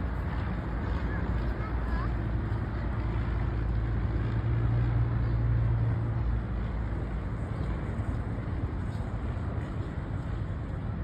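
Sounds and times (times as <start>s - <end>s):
airplane engine drone: 0.0s - 11.0s.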